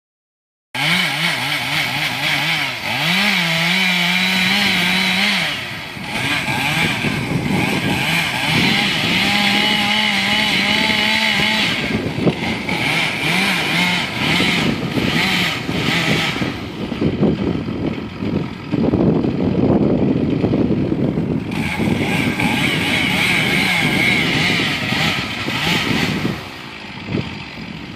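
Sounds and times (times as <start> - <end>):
chainsaw cutting wood: 0.8 - 27.9.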